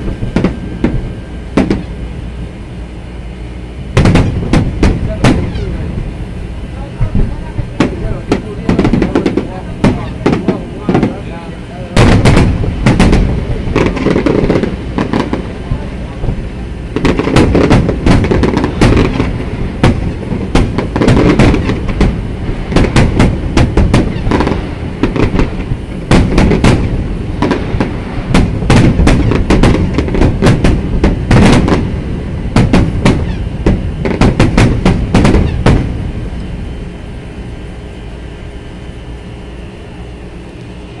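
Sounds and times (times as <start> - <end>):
fireworks bangs and crackles: 0.0 - 2.2, 3.9 - 38.3.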